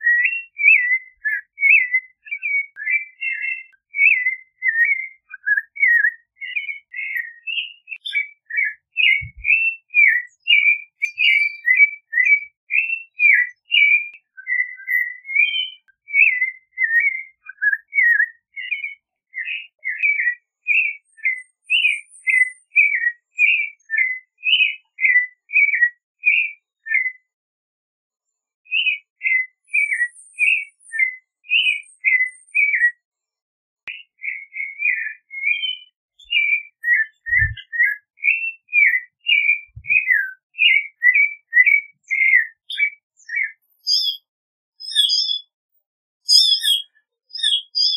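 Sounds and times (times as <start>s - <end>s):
thrush singing whistled phrases: 0.0s - 27.3s, 28.7s - 33.0s, 33.9s - 45.5s, 46.3s - 47.9s.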